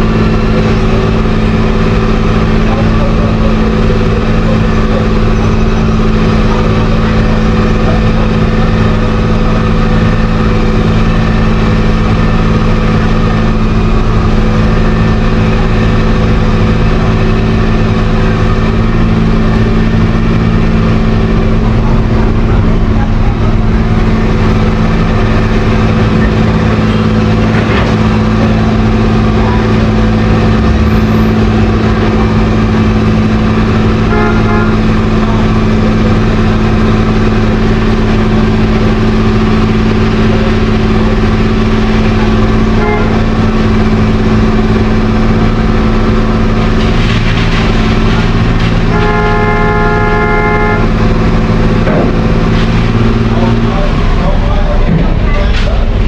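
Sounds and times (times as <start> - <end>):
diesel engines humming: 0.0 - 56.0.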